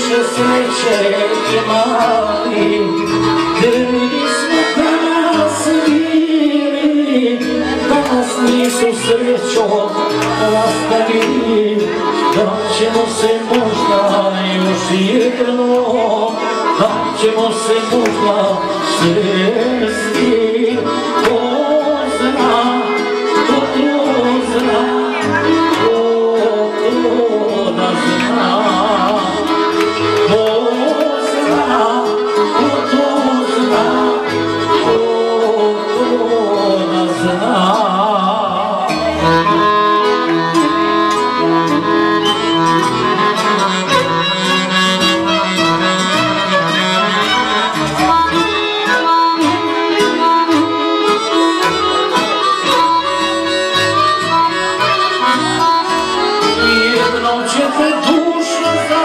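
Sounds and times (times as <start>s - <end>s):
accordion: 0.0s - 59.0s
violin: 0.0s - 59.0s.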